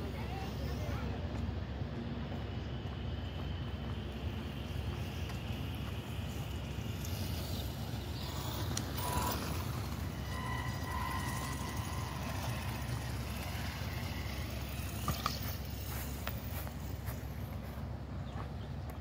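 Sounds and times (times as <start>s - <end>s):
electric motor whine: 2.2s - 17.9s.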